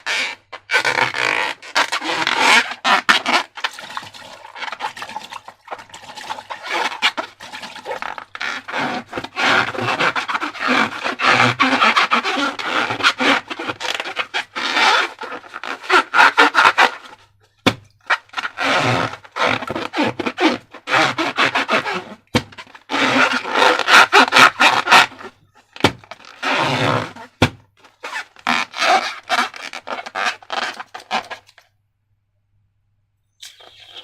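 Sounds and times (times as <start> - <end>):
slime rubbing and scraping: 0.0 - 17.2, 18.1 - 31.6.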